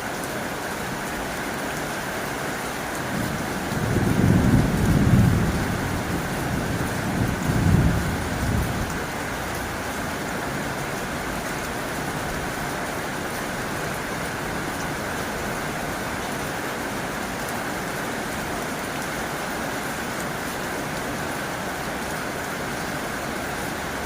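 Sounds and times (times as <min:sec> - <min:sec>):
rain on a tin roof: 0:00.0 - 0:24.0.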